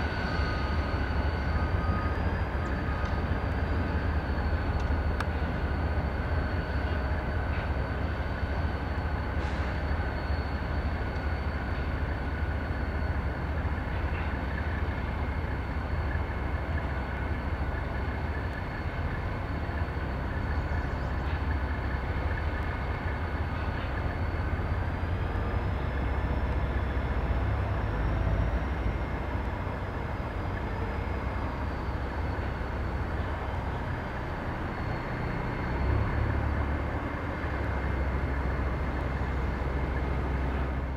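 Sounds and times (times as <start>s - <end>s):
diesel locomotive rumble: 0.0s - 40.9s
train wheel noise: 0.0s - 40.9s.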